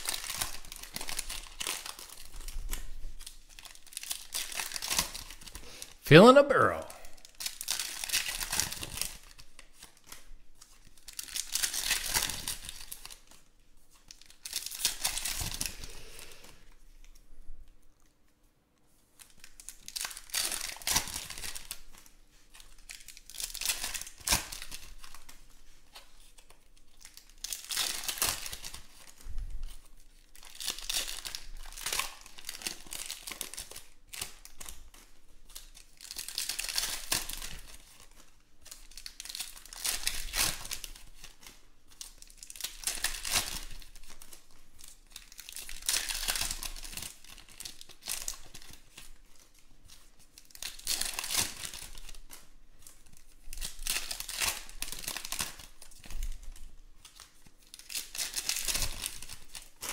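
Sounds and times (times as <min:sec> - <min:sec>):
wrappers tearing and crinkling: 0:00.0 - 0:05.8, 0:07.2 - 0:15.9, 0:19.2 - 0:59.9.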